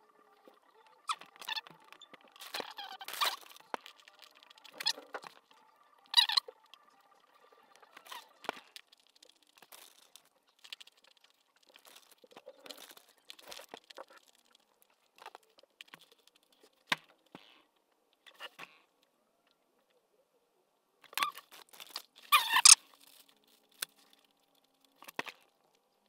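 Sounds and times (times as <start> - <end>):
faint squeaks: 0.0 - 20.1, 21.1 - 25.1.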